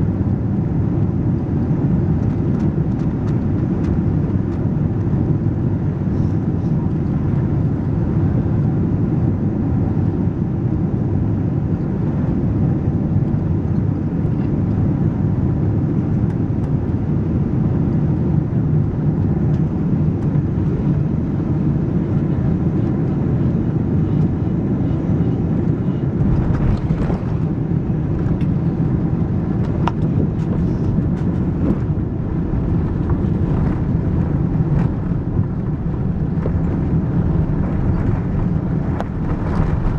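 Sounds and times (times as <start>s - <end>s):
aircraft cabin engine roar: 0.0s - 39.9s.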